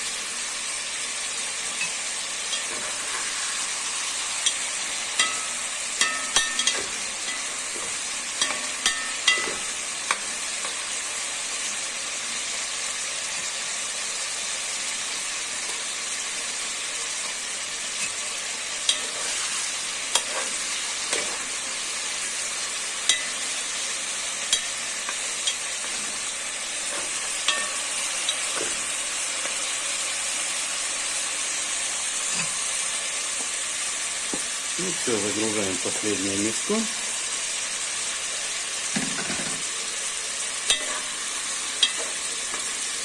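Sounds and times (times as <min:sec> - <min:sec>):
meat sizzling in a pot: 0:00.0 - 0:43.0.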